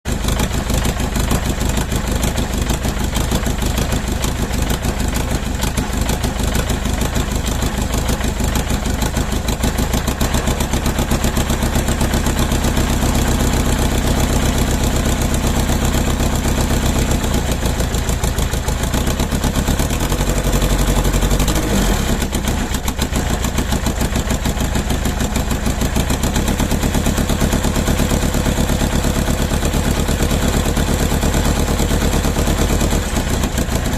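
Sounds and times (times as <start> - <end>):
diesel engine idling roughly: 0.1 - 33.9.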